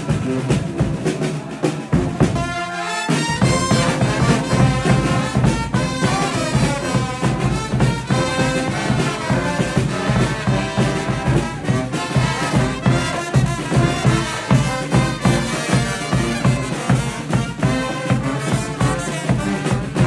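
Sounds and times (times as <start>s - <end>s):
brass band playing: 0.0s - 20.0s.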